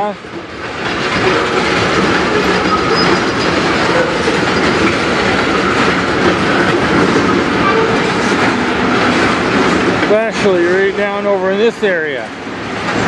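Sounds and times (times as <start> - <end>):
freight train rolling past: 0.0 - 13.0
wheel clicks over rails: 0.0 - 13.0.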